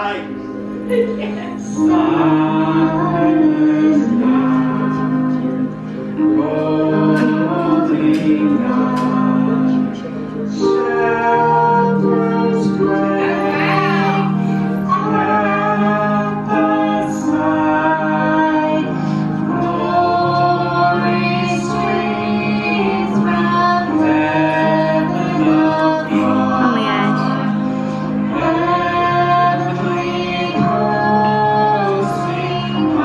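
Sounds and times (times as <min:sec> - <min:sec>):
backing track music: 0:00.0 - 0:33.0
karaoke singing: 0:00.0 - 0:33.0.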